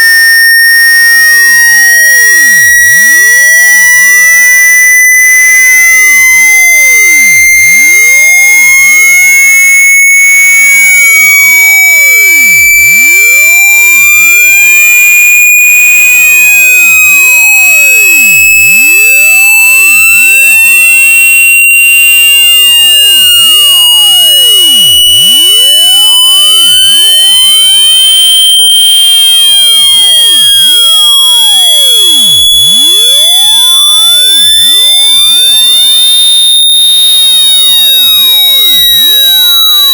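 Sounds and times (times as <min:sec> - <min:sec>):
sine tone sweeping upward: 0:00.0 - 0:39.9.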